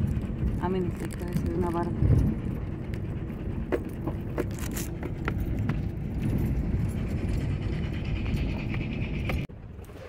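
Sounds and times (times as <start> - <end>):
car engine and road noise: 0.0 - 9.6.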